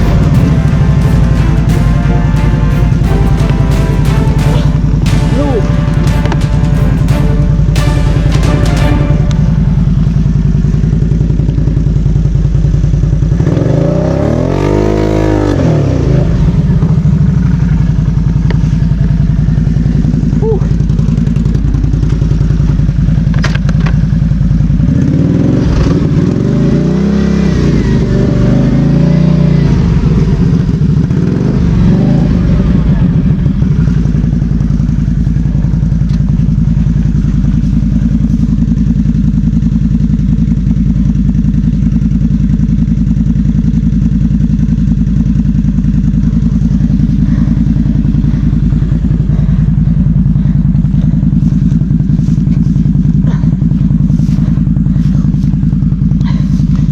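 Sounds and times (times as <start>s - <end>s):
quad bike engine revving: 0.0s - 1.4s, 10.0s - 56.9s.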